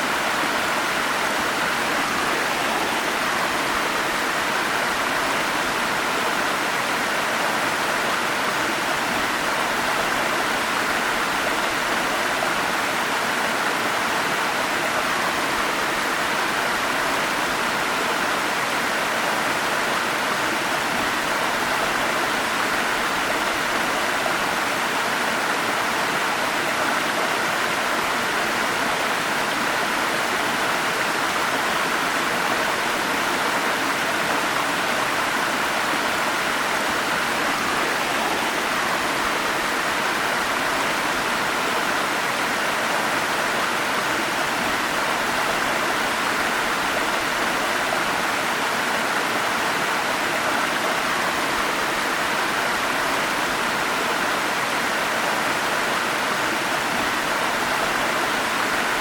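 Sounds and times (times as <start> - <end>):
stream flowing over cascades: 0.0 - 59.0.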